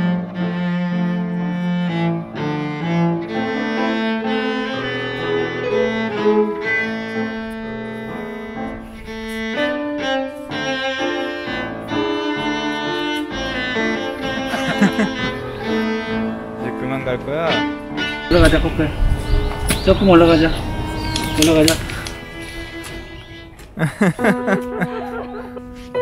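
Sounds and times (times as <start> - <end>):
bowed-string music: 0.0 - 26.0.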